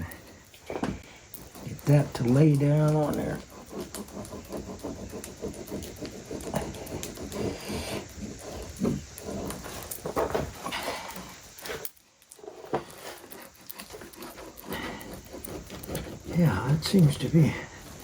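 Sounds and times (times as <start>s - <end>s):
hammer rubbing and scraping veneer: 0.0s - 11.8s, 12.4s - 18.0s.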